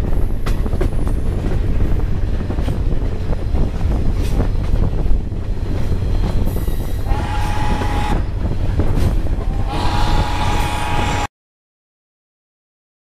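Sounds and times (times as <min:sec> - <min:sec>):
steam train rumbling: 0:00.0 - 0:11.3.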